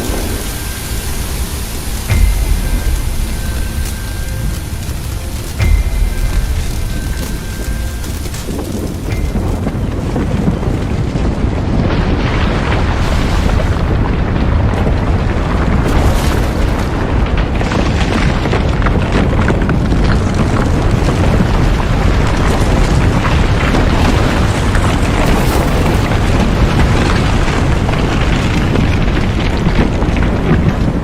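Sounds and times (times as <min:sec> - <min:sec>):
dense crackling: 0:00.0 - 0:31.0
low rumbling: 0:00.0 - 0:31.0.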